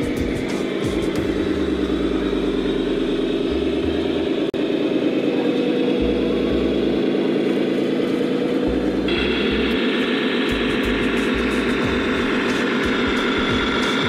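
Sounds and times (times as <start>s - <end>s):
electronic diesel engine rumble: 0.0s - 14.0s.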